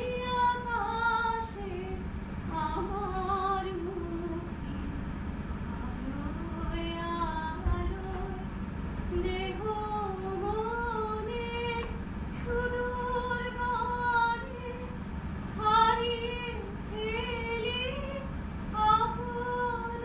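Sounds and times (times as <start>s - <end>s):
woman singing slow melody: 0.0s - 15.0s, 15.6s - 20.0s
faint low hum: 0.0s - 20.0s.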